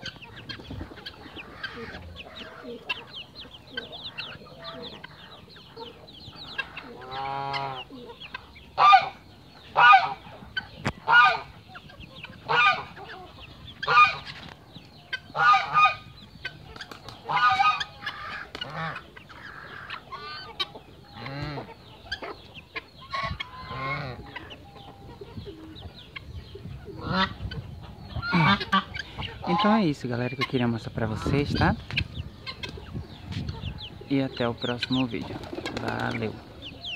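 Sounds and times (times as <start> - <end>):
chicks peeping: 0.0 - 36.9
chirps and clucks: 0.0 - 36.9.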